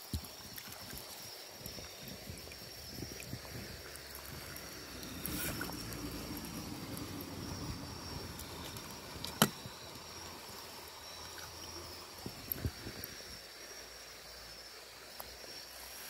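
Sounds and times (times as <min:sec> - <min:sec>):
river water flowing: 0:00.1 - 0:15.0
high-pitched hum: 0:01.6 - 0:15.9.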